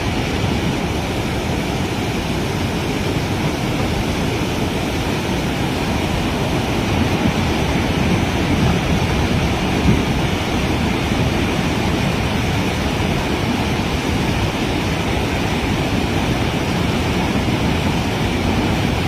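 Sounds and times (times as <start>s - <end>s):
floodwater roaring: 0.0s - 19.0s.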